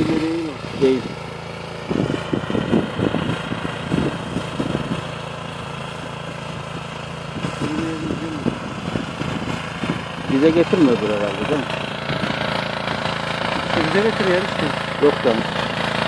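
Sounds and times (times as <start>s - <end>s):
small tractor engine running: 0.0s - 16.0s.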